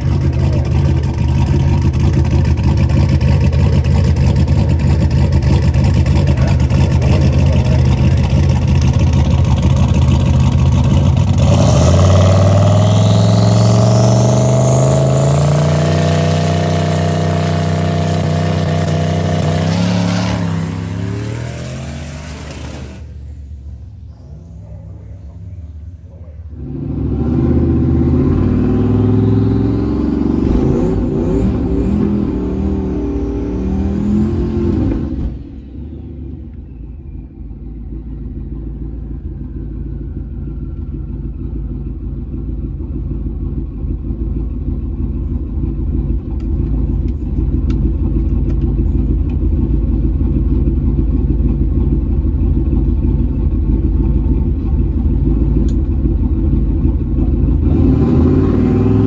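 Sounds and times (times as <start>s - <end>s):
car engine at full throttle: 0.0s - 59.0s
engine rumbling from inside cabin: 0.0s - 59.0s.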